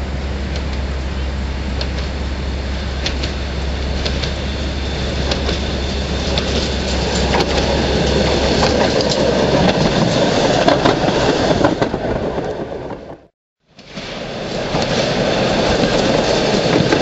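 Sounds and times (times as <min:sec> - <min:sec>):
streetcar rumbling past: 0:00.0 - 0:17.0
wheels clicking on rails: 0:00.0 - 0:17.0.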